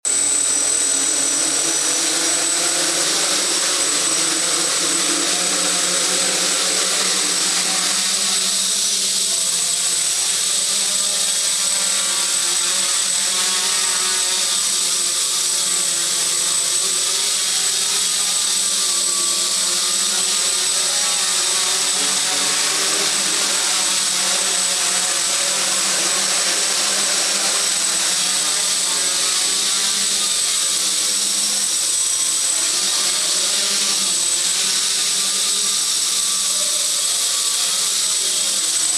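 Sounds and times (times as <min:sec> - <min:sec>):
high-pitched motor whine: 0:00.0 - 0:38.9
quadcopter motors and propellers: 0:00.0 - 0:38.9.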